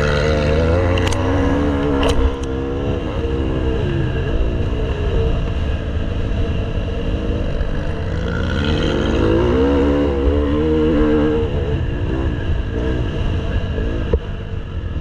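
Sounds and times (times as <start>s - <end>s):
motocross bike engine accelerating: 0.0s - 5.8s, 6.4s - 14.2s.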